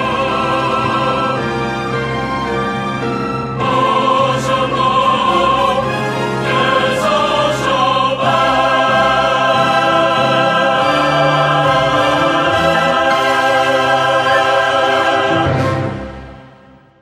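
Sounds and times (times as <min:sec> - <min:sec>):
choir singing sustained chords: 0:00.0 - 0:17.0
orchestral accompaniment: 0:00.0 - 0:17.0.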